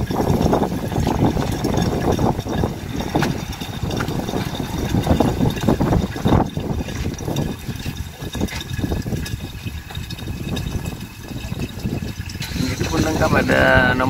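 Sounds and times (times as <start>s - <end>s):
water filling plastic jug: 0.0s - 14.0s.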